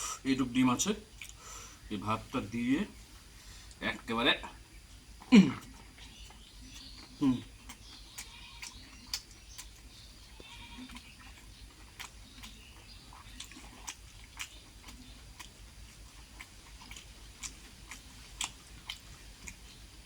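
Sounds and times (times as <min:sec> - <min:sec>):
person chewing with mouth smacks: 0:01.0 - 0:02.4, 0:03.6 - 0:20.0.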